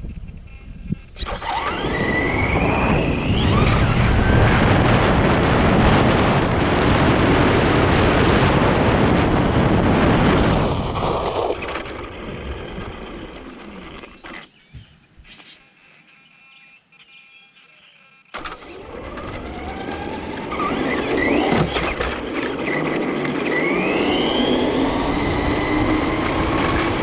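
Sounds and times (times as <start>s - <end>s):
rush of tyre and wind noise: 0.0s - 14.4s, 18.4s - 27.0s
rc truck motor whine: 0.5s - 14.5s, 18.2s - 27.0s.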